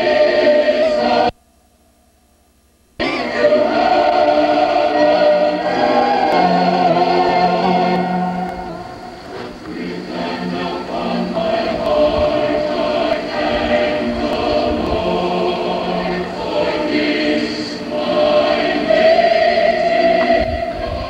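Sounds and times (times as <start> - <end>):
children's choir singing: 0.0 - 1.3, 3.0 - 21.0.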